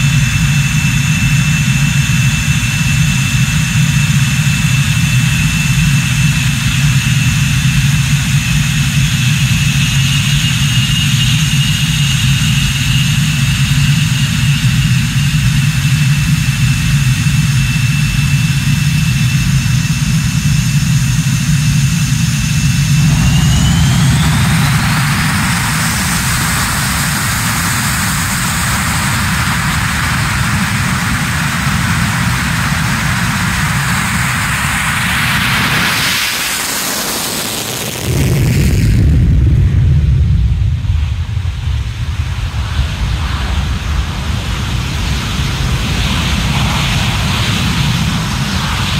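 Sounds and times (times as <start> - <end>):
jet engines whining and rumbling: 0.0 - 48.9.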